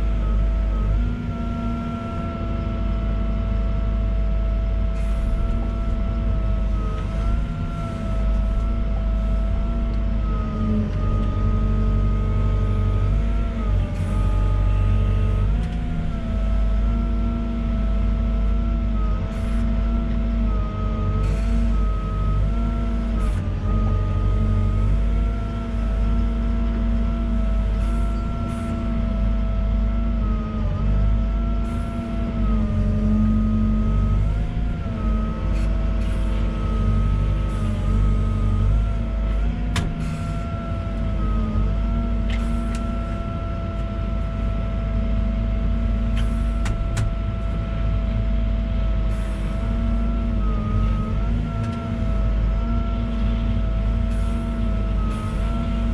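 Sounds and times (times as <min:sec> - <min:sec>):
diesel engine running: 0:00.0 - 0:55.9
high machine whine: 0:00.0 - 0:55.9.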